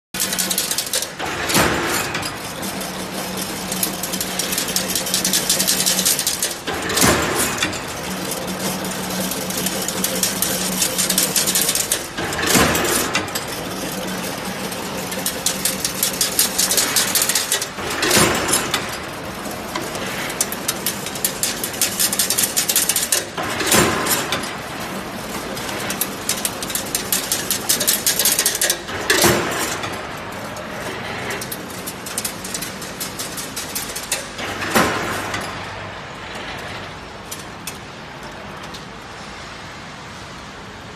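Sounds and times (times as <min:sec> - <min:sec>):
fast metallic rattle: 0:00.2 - 0:35.9
machine motor hum: 0:00.2 - 0:38.7
loud machine clatter: 0:00.2 - 0:40.9.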